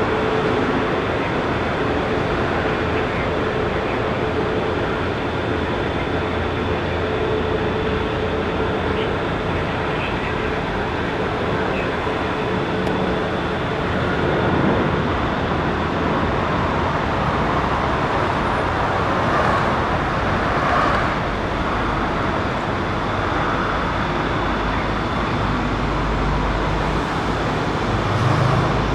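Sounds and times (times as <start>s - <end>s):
high steady whine: 0.0s - 28.9s
jet engine rush: 0.0s - 28.9s.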